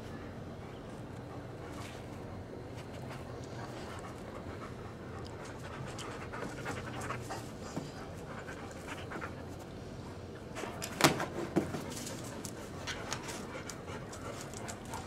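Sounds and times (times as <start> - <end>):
dog panting: 0.5 - 9.7, 12.1 - 15.0.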